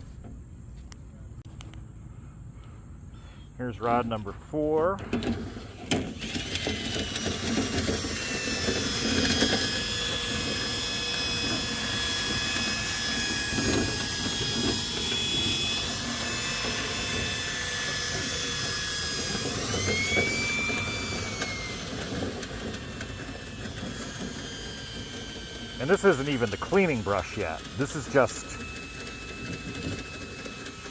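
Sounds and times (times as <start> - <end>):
motor whine: 3.6 - 30.9.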